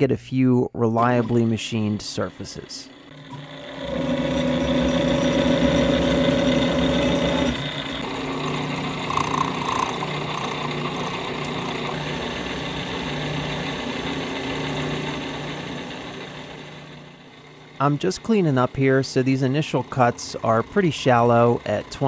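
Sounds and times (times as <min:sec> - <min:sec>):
milling machine hum: 0:01.0 - 0:22.0.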